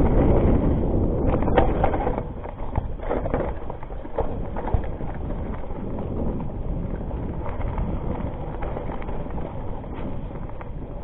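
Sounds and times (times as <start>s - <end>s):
bike chain and frame rattling: 0.0s - 11.0s
bike tyres crunching on dirt: 0.0s - 11.0s
wind on microphone: 0.0s - 11.0s.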